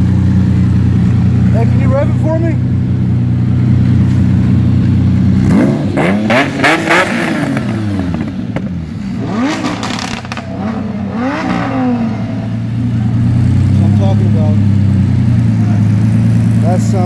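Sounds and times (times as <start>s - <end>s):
car engine idling and revving: 0.0s - 17.0s
exhaust crackles: 0.0s - 17.0s.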